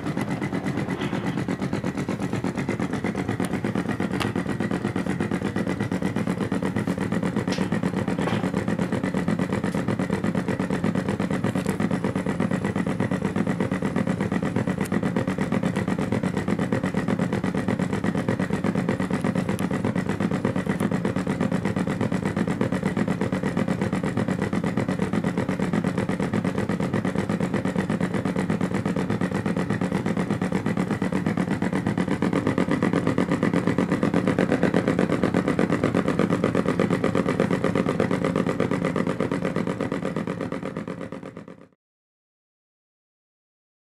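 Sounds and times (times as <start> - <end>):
synthesized engine pulsing: 0.0 - 41.8.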